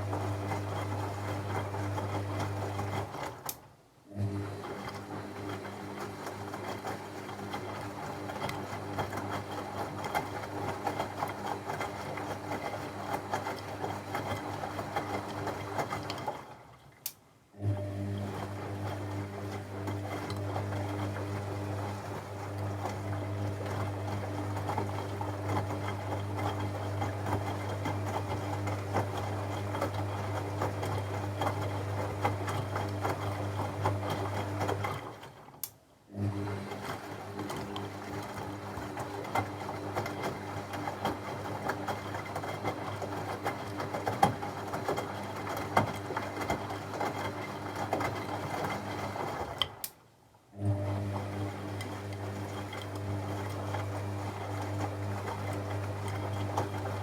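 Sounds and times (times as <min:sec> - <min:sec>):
washing machine motor hum: 0:00.0 - 0:16.8, 0:17.6 - 0:49.9, 0:50.5 - 0:57.0.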